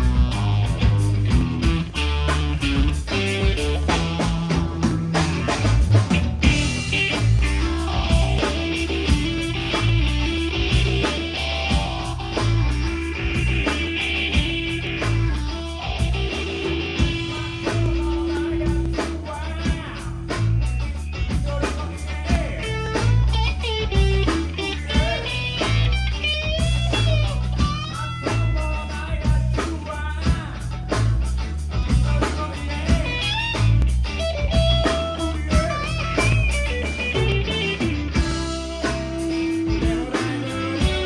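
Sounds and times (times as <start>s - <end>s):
electric guitar bending pitch: 0.0s - 29.3s, 30.4s - 41.0s
live rock band playing: 0.0s - 41.0s.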